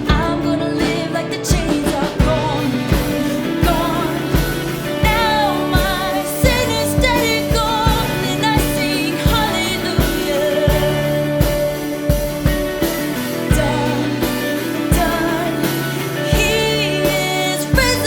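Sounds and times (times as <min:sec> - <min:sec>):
person singing: 0:00.0 - 0:18.0
steady drum beat: 0:00.0 - 0:18.0.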